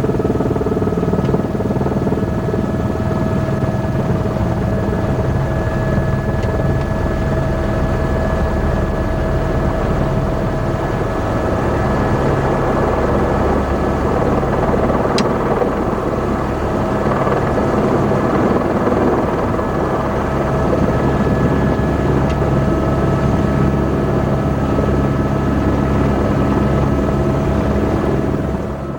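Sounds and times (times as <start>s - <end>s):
helicopter drone: 0.0s - 28.9s.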